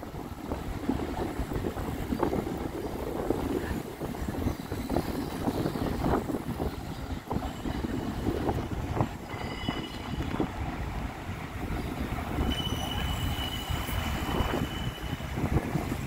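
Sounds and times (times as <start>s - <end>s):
city street traffic: 0.0s - 16.0s
wind buffeting microphone: 0.0s - 16.0s.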